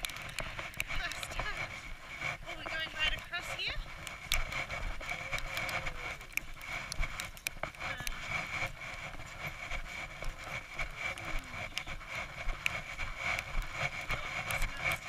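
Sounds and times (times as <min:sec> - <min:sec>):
footsteps crunching over snow: 0:00.0 - 0:15.0
steady low rumble: 0:00.0 - 0:15.0.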